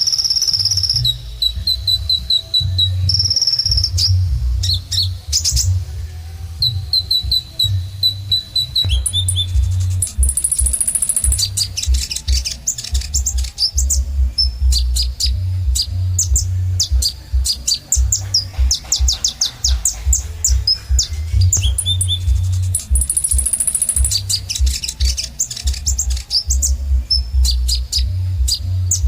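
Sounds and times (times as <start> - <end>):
sunbird singing rapid high chirps: 0.0 - 29.0.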